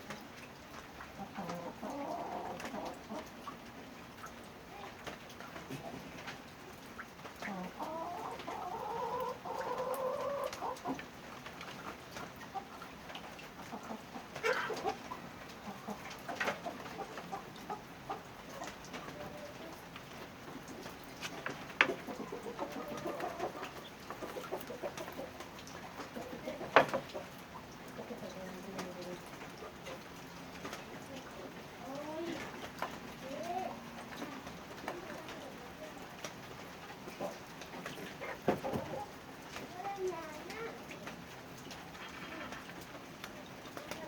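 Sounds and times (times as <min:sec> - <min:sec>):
chickens clucking: 0:00.1 - 0:44.0.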